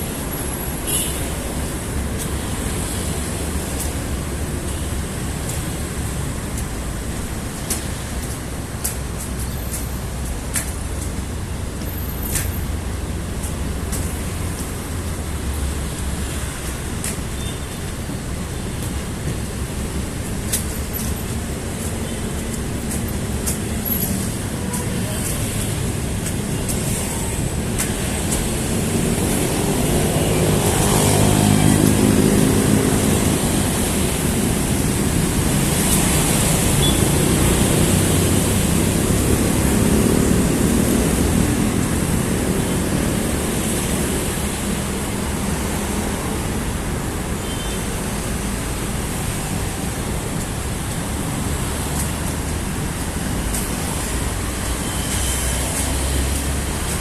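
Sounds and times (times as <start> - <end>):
heavy vehicle engine drone: 0.0 - 57.0
road traffic passing: 0.0 - 57.0.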